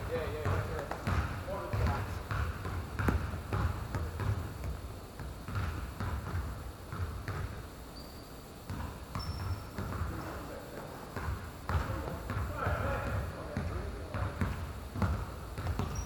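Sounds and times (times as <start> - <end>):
basketball bouncing on court: 0.0 - 7.6, 8.6 - 10.3, 11.1 - 16.0.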